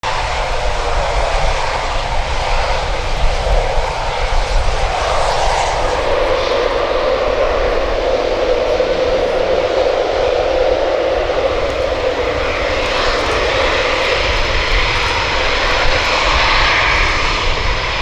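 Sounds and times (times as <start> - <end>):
jet engines droning: 0.1 - 18.0.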